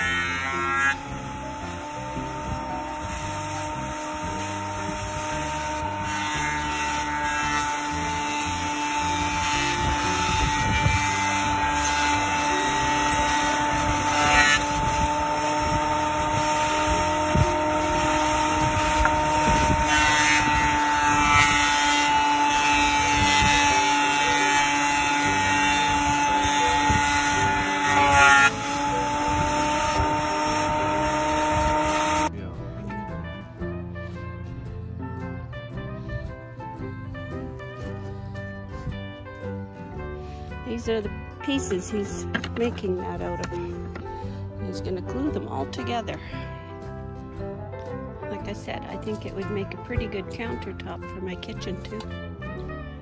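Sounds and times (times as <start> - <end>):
power tool motor whining: 0.0 - 32.3, 37.0 - 47.3.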